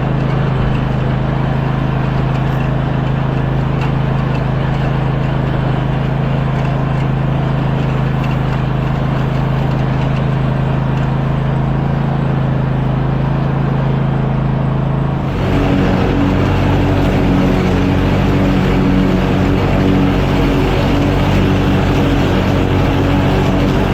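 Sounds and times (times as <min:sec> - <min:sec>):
engine humming: 0:00.0 - 0:23.9.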